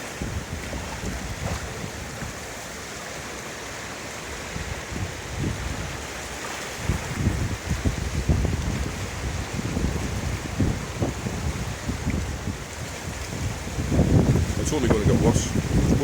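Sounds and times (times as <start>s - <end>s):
wind buffeting microphone: 0.0s - 2.9s, 4.2s - 16.0s
floodwater rushing: 0.0s - 16.0s.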